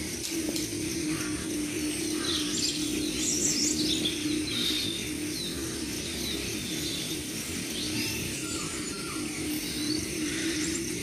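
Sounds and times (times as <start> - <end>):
birds chirping and trilling: 0.0 - 11.0
steady low hum: 0.0 - 11.0.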